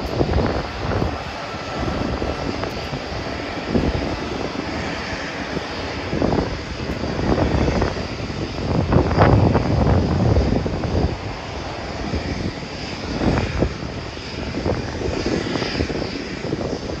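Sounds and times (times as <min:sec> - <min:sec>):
airliner engines: 0:00.0 - 0:17.0.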